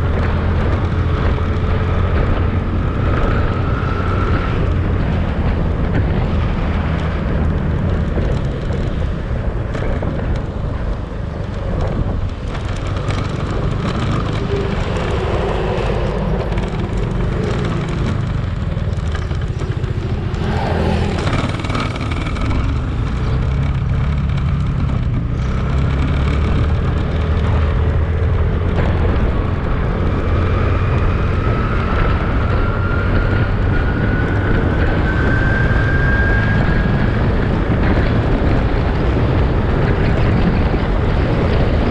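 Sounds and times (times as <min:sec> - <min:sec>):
whine rising in pitch: 0:00.0 - 0:40.4
motorcycle running: 0:00.0 - 0:41.9
wind and road noise: 0:00.0 - 0:41.9.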